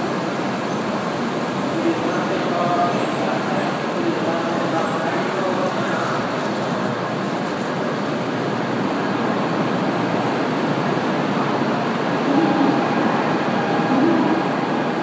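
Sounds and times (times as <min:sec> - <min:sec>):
train rolling and braking: 0:00.0 - 0:15.0.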